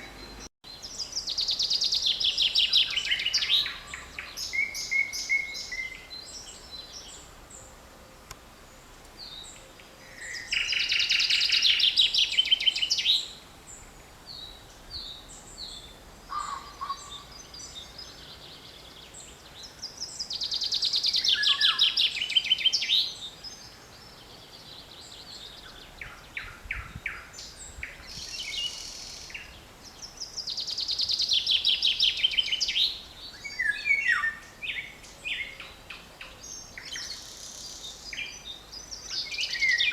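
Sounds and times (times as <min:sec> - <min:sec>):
birds calling softly: 0:00.0 - 0:39.9.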